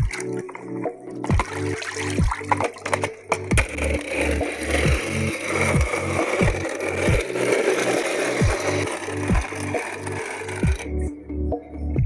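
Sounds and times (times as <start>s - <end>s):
toy wheels scraping on wet concrete: 0.0s - 11.0s.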